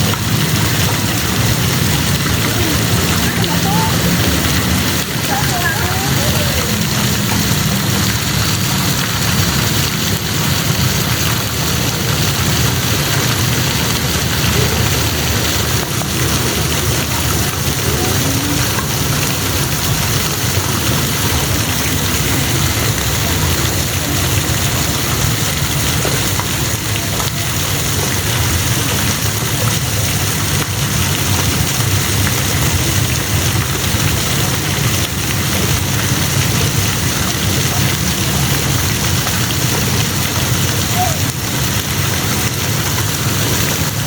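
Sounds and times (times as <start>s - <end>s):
spraying and falling water: 0.0s - 44.0s.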